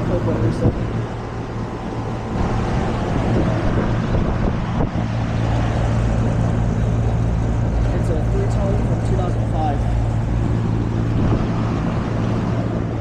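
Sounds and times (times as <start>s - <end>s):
compressor electrical hum: 0.0s - 13.0s
condenser fan whoosh: 0.0s - 13.0s
wind on microphone: 0.0s - 13.0s.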